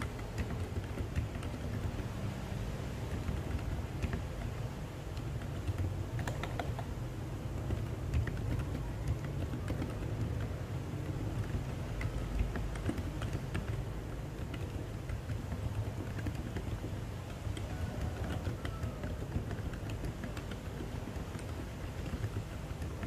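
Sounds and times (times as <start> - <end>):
soft muffled keyboard typing: 0.0 - 23.0
steady low hum: 0.0 - 23.0.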